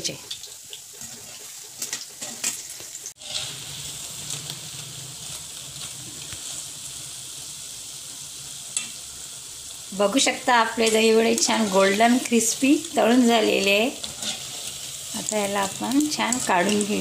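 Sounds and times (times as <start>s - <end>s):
fritters sizzling in oil: 0.0s - 17.0s.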